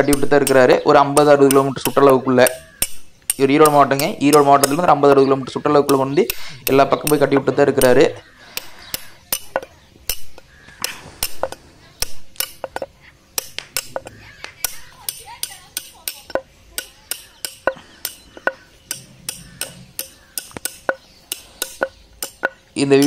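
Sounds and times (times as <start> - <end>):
metallic hammer taps: 0.0 - 22.7.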